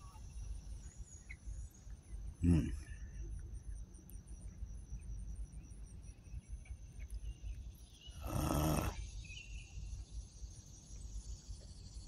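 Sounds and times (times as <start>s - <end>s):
high insect trill: 0.0s - 12.0s.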